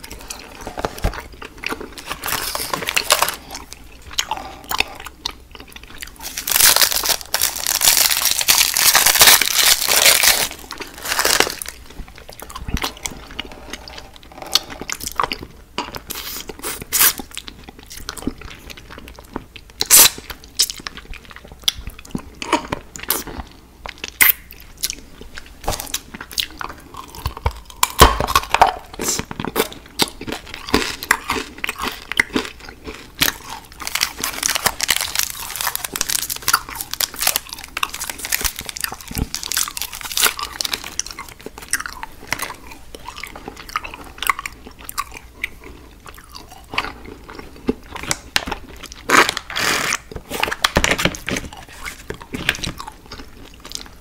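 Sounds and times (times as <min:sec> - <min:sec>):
person chewing and crunching candy: 0:00.0 - 0:54.0.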